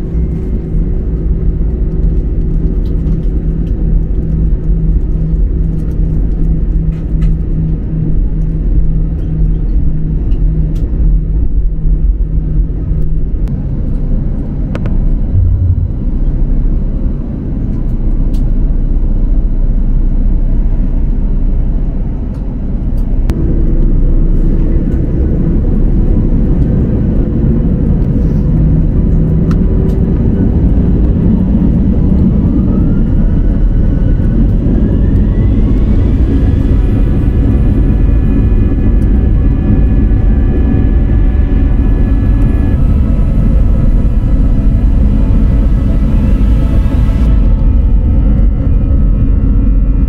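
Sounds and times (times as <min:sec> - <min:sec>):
aircraft engines low rumble: 0:00.0 - 0:50.0
jet engine whine: 0:00.0 - 0:50.0.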